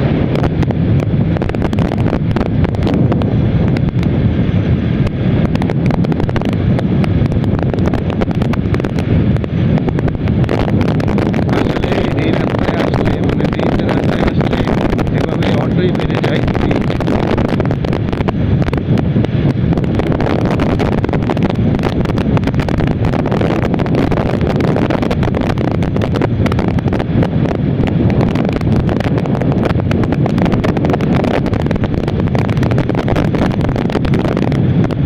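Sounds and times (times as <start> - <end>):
road and engine noise: 0.0 - 35.0
wind rushing over microphone: 0.0 - 35.0.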